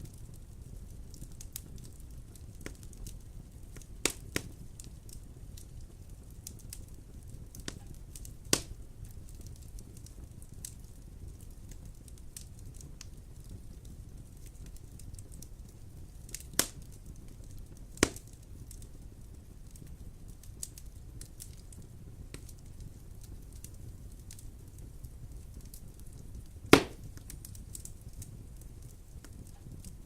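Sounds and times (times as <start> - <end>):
sharp fire pops: 0.0 - 30.0
wood fire crackling: 0.0 - 30.0.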